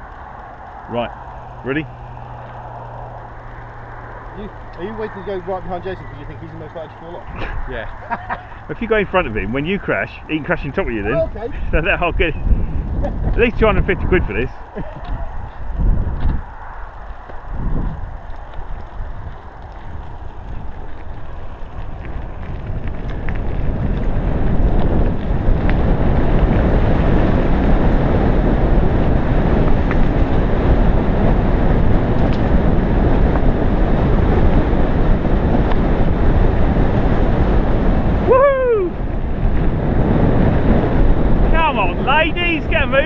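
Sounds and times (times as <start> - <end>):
bike tyres rumbling on dirt: 0.0 - 43.0
wind buffeting microphone: 0.0 - 43.0.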